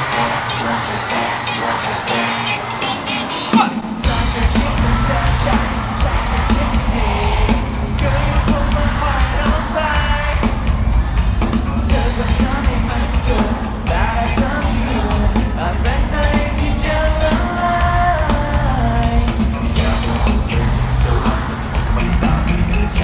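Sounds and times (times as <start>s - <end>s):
pop song over sound system: 0.0s - 23.0s.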